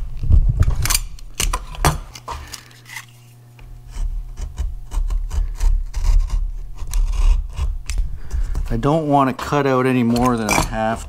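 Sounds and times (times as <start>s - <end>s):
utility knife scraping: 0.8s - 11.0s.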